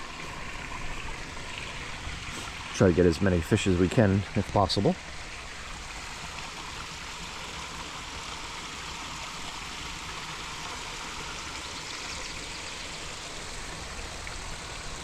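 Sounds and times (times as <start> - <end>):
running water splashing: 0.0 - 15.0.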